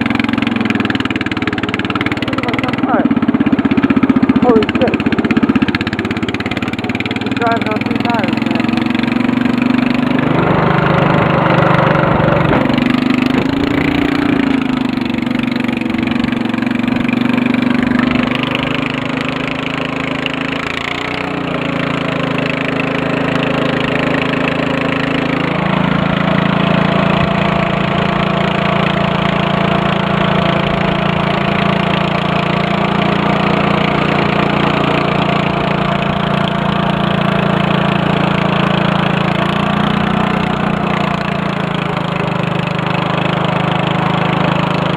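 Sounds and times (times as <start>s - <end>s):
riding lawn mower engine: 0.0s - 44.9s.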